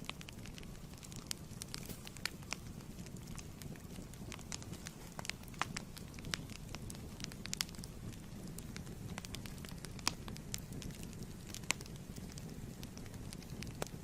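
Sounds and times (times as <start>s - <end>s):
low rumble of flames: 0.0s - 14.0s
wood fire crackling and popping: 0.0s - 14.0s.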